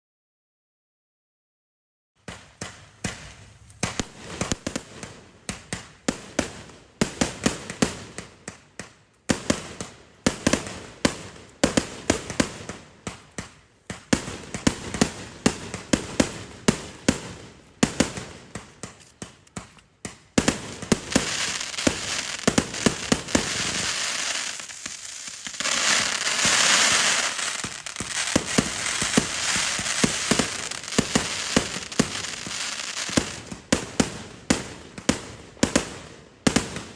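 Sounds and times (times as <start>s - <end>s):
firework crackling: 2.2s - 8.7s, 9.3s - 36.9s
firework shots in rapid volleys: 2.2s - 36.9s.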